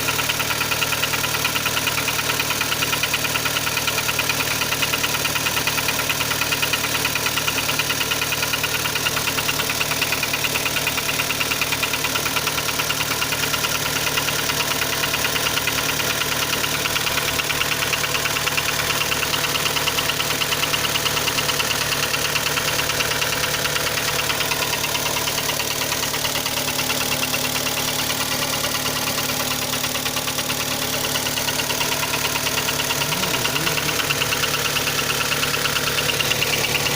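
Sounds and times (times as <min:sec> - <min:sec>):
car engine idling: 0:00.0 - 0:36.9
rapid engine knock: 0:00.0 - 0:36.9.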